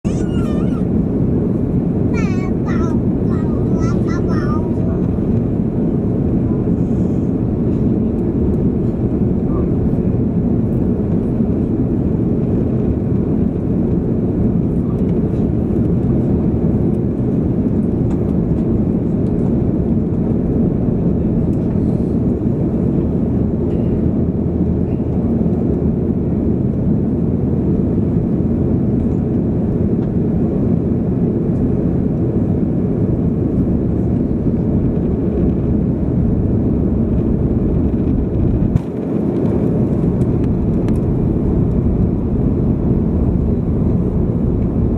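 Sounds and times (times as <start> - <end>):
low jet rumble: 0.0 - 44.9.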